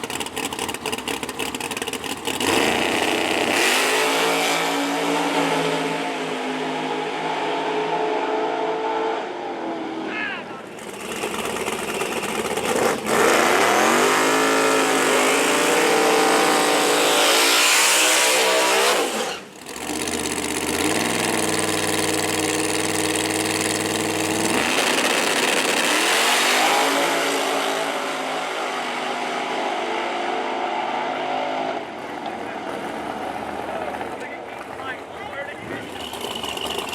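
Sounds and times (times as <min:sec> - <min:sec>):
drag racing car engine revving: 0:00.0 - 0:36.9.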